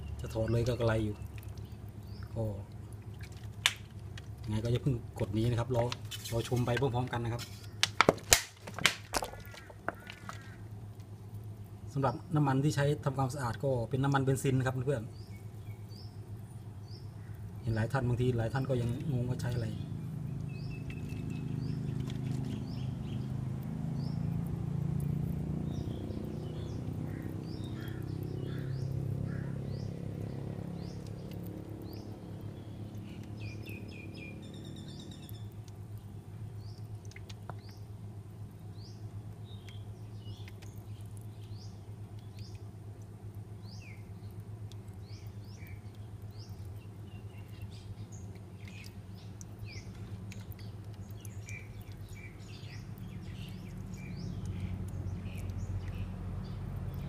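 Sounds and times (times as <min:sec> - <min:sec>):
small birds chirping: 0:00.0 - 0:08.0, 0:09.1 - 0:57.0
steady low hum: 0:00.0 - 0:57.0.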